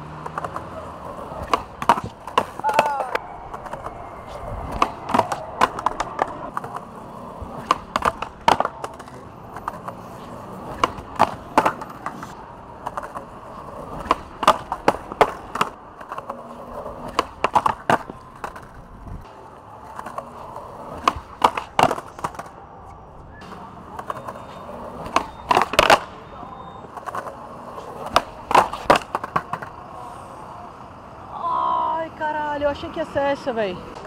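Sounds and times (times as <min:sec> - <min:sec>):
skateboard clacks: 0:00.0 - 0:30.1
skateboard wheels rolling on concrete: 0:00.0 - 0:34.0.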